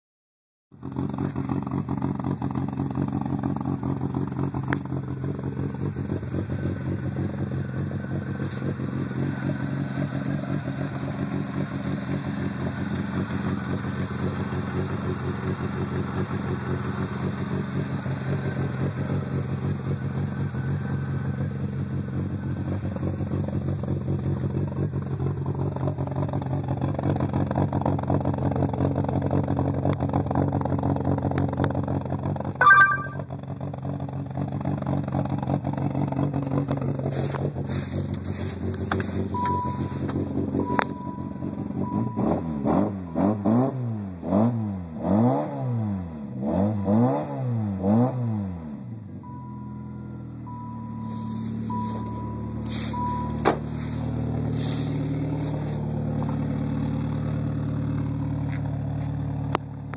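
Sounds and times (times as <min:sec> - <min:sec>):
car engine idling loudly: 0:00.8 - 0:32.6, 0:33.4 - 0:42.6, 0:50.1 - 0:59.9.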